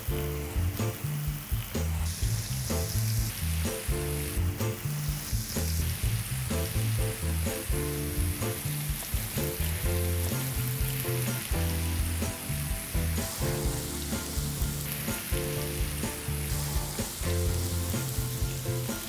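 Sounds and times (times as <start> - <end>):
fish sizzling in a pan: 0.0 - 19.0
low background music: 0.0 - 19.0.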